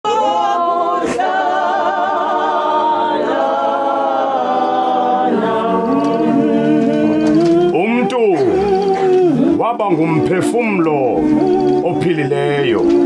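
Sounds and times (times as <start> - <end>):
congregation singing a hymn: 0.1 - 13.0.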